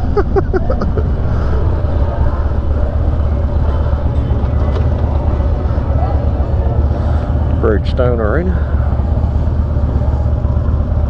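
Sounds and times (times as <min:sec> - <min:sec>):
motorcycle engine running low: 0:00.0 - 0:11.0.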